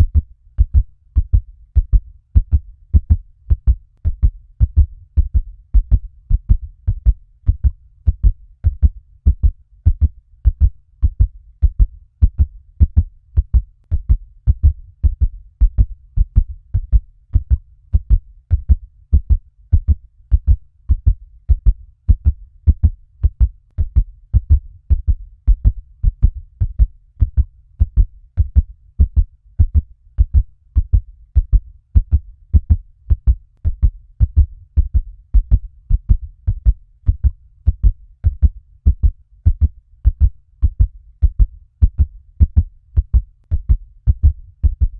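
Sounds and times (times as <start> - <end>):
fast heartbeat thumps: 0.0 - 44.9.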